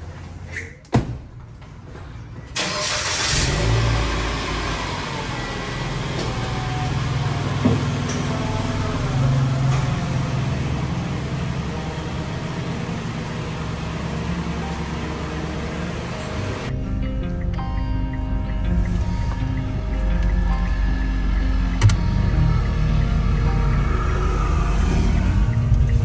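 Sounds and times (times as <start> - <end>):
suv engine idling: 2.6 - 26.0.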